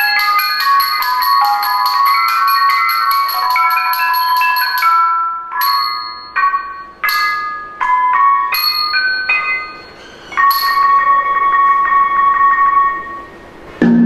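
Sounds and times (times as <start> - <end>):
small hand cymbals chiming: 0.0 - 13.5
tuned gongs ringing: 0.0 - 14.0.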